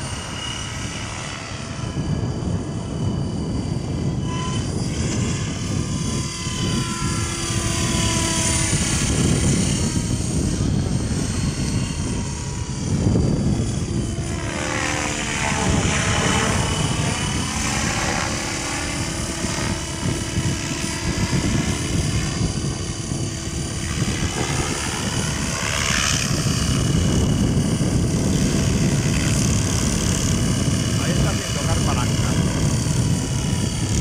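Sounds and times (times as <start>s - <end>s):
model helicopter droning: 0.0s - 34.0s.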